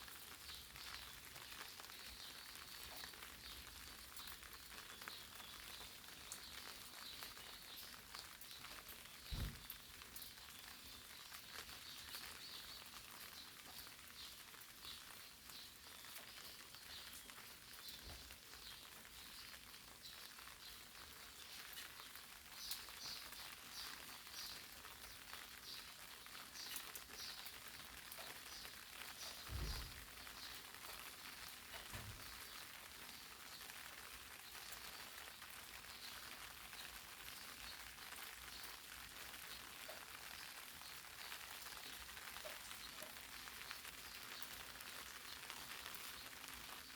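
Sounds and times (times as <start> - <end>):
light rain pattering on leaves: 0.0 - 46.9.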